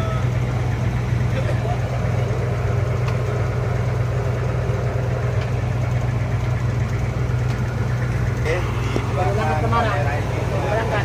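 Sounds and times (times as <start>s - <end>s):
bus diesel engine idling: 0.0s - 11.0s.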